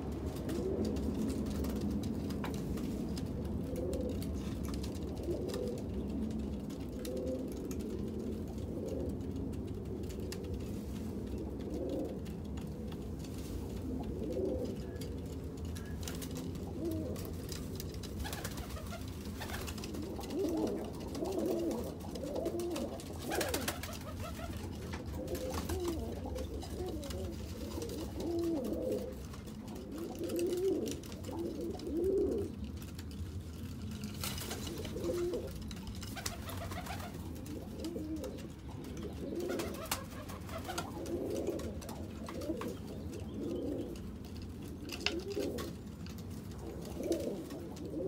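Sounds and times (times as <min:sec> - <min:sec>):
pigeons cooing: 0:00.0 - 0:33.2, 0:33.8 - 0:48.0.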